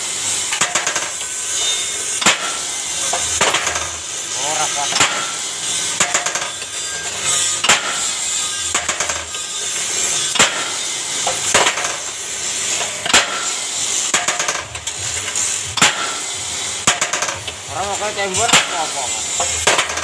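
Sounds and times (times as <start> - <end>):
steady machine noise: 0.0 - 20.0
sharp metal clanks: 0.5 - 4.0, 4.8 - 20.0.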